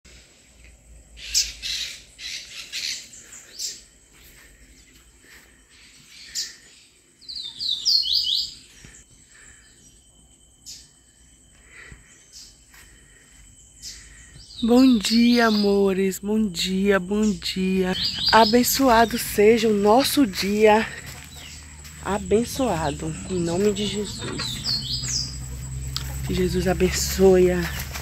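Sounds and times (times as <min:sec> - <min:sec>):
wild birds chirping: 0:00.8 - 0:28.0.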